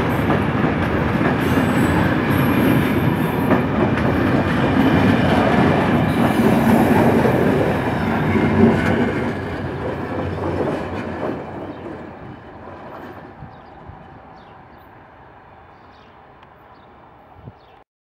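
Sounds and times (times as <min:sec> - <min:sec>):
train wheels rolling on rails: 0:00.0 - 0:17.2.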